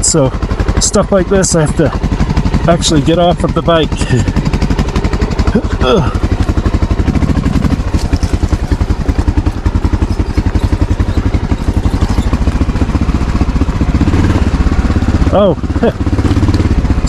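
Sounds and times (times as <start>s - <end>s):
motorcycle engine running at low revs: 0.0s - 17.0s.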